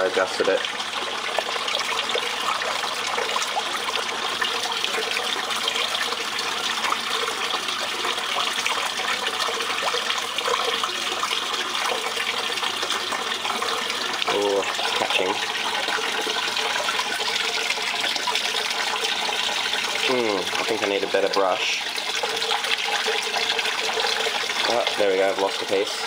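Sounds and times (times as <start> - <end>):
water running and trickling: 0.0 - 26.0.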